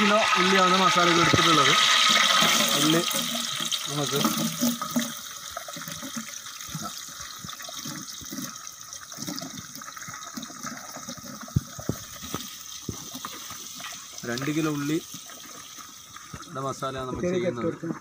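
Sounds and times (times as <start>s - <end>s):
onions sizzling in hot oil: 0.0s - 9.1s, 11.7s - 17.2s
oil popping: 0.0s - 18.0s.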